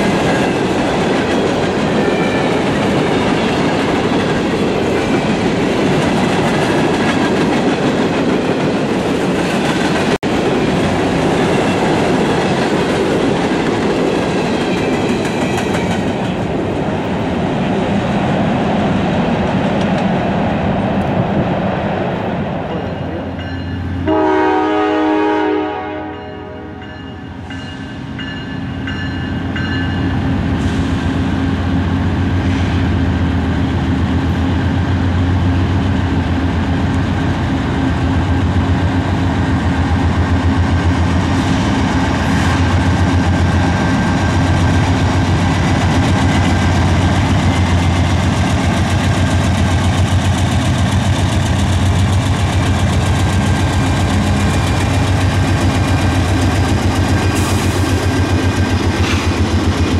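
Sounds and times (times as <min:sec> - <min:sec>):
diesel locomotives passing: 0:00.0 - 0:59.9.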